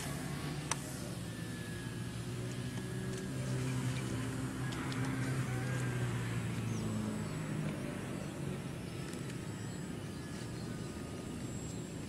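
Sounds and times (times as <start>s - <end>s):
model plane motor droning: 0.0s - 12.0s.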